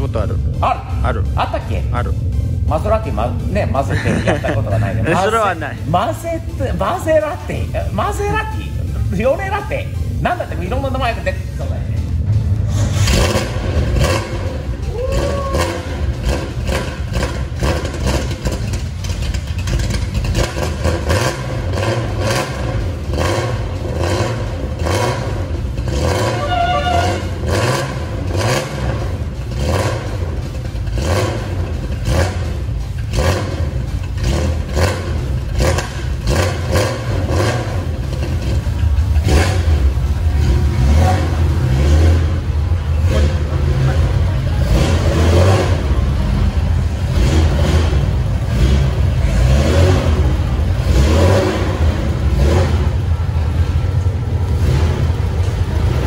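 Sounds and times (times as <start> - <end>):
car engine idling unevenly: 0.0 - 56.0.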